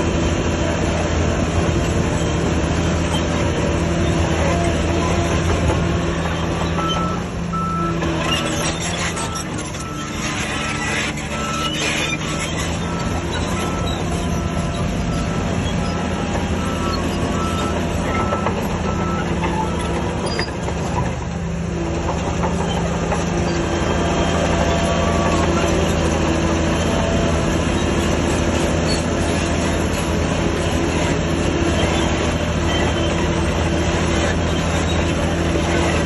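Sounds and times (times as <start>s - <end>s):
bulldozer diesel engine under load: 0.0s - 36.0s
steel tracks clanking and squealing: 0.6s - 36.0s.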